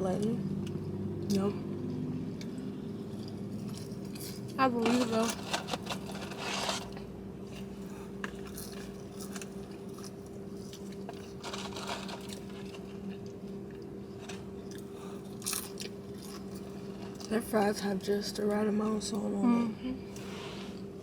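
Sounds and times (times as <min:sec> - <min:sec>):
low steady hum: 0:00.0 - 0:21.0
chewing with crunches: 0:00.2 - 0:19.2.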